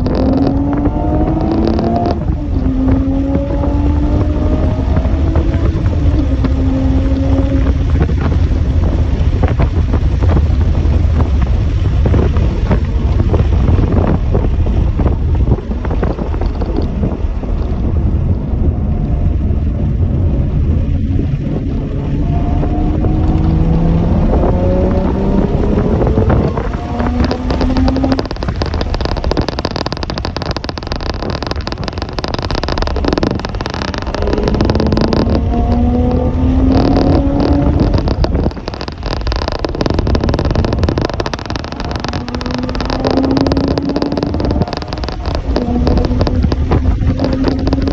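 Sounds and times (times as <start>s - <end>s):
engine running and revving: 0.0s - 47.9s
wind buffeting microphone: 0.0s - 47.9s.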